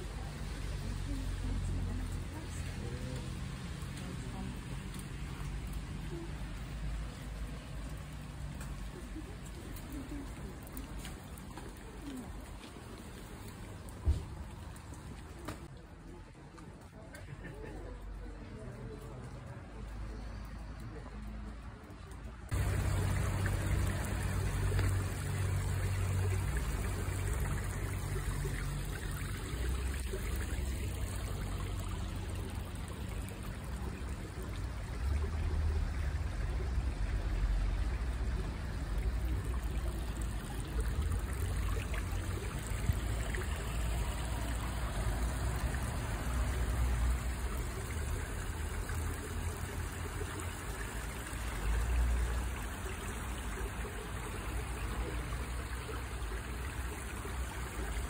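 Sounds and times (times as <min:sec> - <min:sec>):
water trickling over stone: 0:00.0 - 0:58.0.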